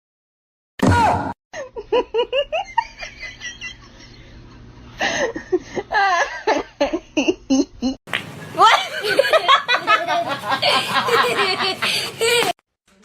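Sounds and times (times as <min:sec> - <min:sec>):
laughter in bursts: 0:01.6 - 0:08.0, 0:08.6 - 0:12.6.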